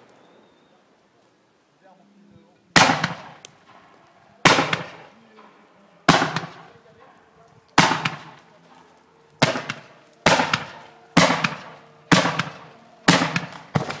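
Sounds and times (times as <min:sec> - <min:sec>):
fireworks crackle: 0:00.0 - 0:14.0
fireworks bangs: 0:02.7 - 0:14.0.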